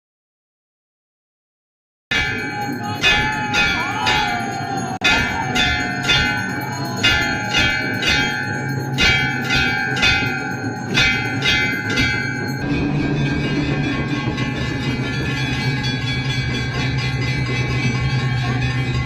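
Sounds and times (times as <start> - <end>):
temple bell ringing: 2.1 - 19.0.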